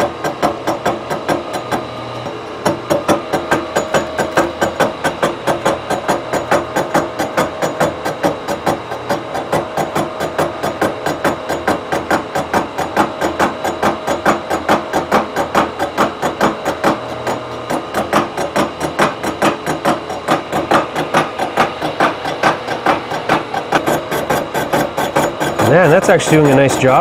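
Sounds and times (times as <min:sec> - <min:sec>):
milling cutter chattering on metal: 0:00.0 - 0:27.0
milling machine hum: 0:00.0 - 0:27.0.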